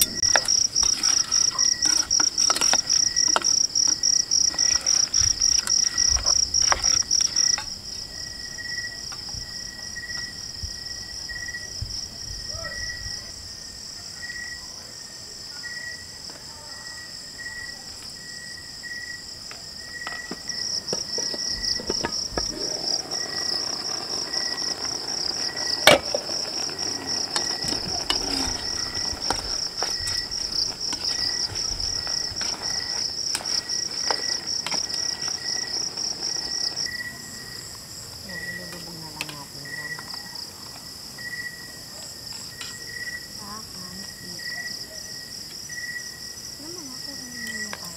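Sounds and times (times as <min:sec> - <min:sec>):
crickets trilling: 0:00.0 - 0:47.9
low cricket chirp: 0:00.0 - 0:47.9.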